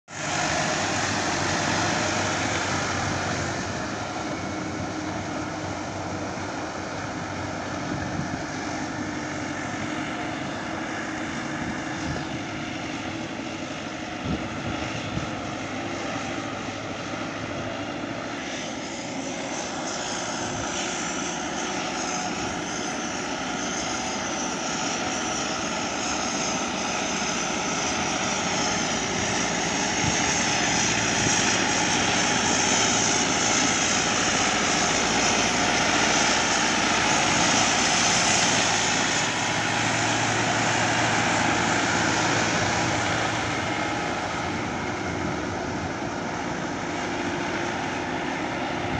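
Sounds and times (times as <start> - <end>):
tractor diesel engine running: 0.0 - 48.9
high wavering whine: 0.1 - 48.9.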